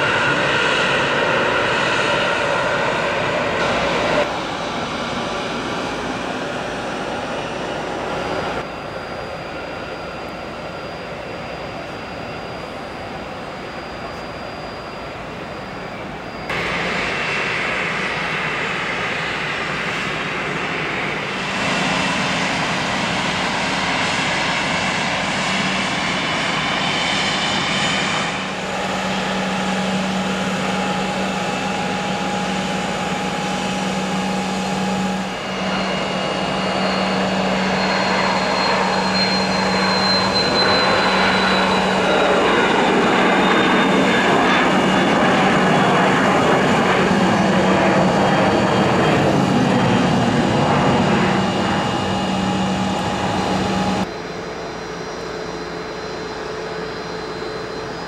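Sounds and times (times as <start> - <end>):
jet engine hum and whine: 0.0 - 58.0.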